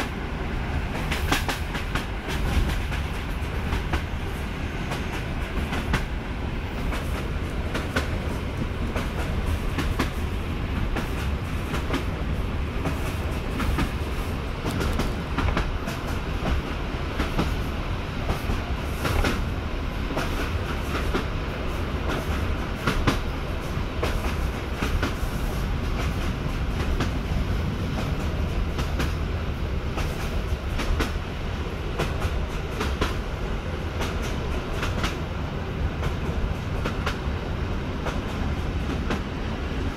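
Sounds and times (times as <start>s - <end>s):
train running gear rumble: 0.0s - 39.9s.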